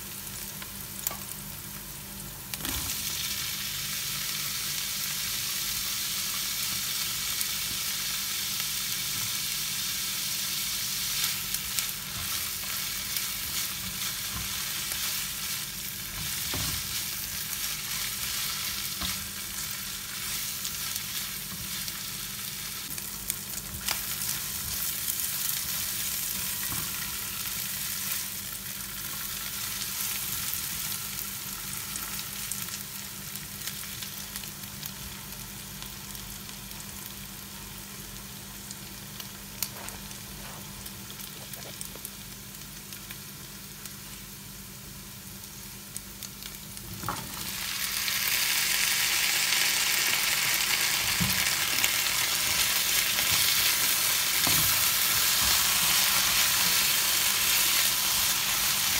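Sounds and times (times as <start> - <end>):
rice and sausage sizzling: 0.0 - 58.9.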